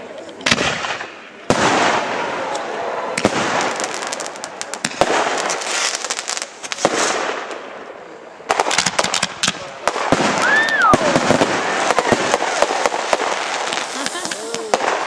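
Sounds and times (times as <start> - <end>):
fireworks hiss and crackle: 0.0 - 15.0
fireworks bangs: 0.4 - 15.0.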